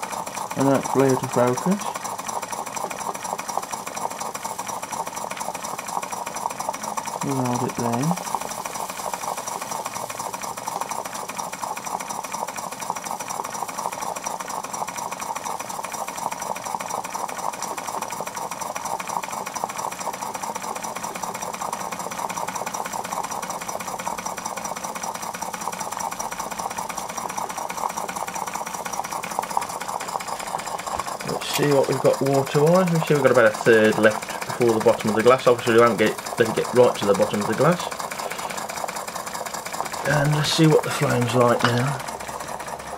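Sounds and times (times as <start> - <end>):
mechanical clatter: 0.0 - 42.9
steam engine chuffing: 0.0 - 42.9.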